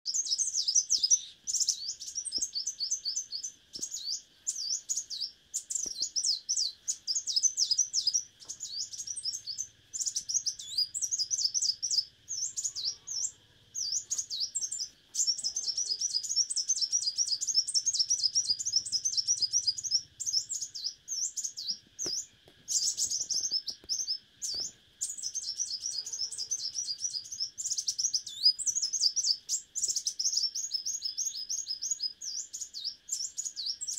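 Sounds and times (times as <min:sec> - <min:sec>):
bird chirping and whistling: 0:00.1 - 0:33.9
steady high hiss: 0:00.1 - 0:33.9.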